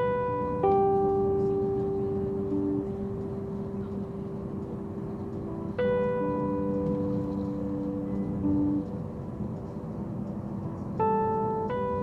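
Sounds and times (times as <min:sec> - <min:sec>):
low steady rumble: 0:00.0 - 0:12.0
soft piano music: 0:00.0 - 0:12.0.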